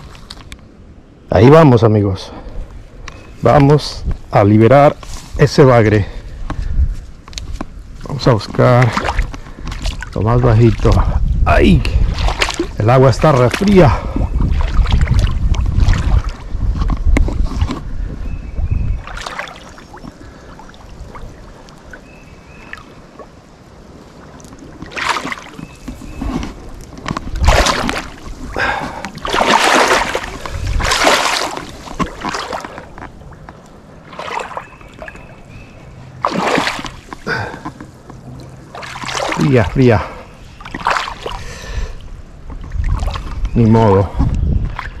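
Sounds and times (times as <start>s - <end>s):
water splashing around legs: 7.3s - 17.8s, 18.6s - 23.3s, 24.1s - 45.0s.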